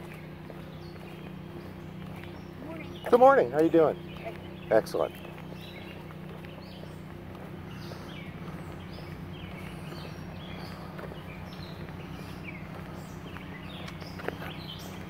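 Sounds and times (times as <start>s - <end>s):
small songbirds chirping: 0.0s - 15.0s
steady low hum: 0.0s - 15.0s.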